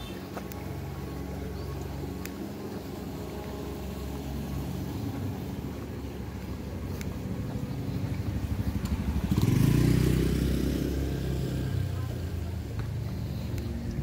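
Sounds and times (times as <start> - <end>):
motorcycle engine approaching: 0.0 - 14.0.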